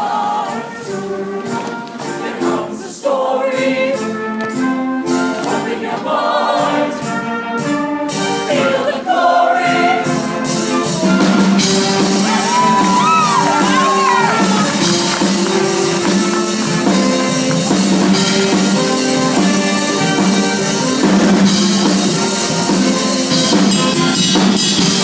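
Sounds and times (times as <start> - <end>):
choir singing: 0.0 - 21.0
instrumental accompaniment with beat: 3.5 - 25.0.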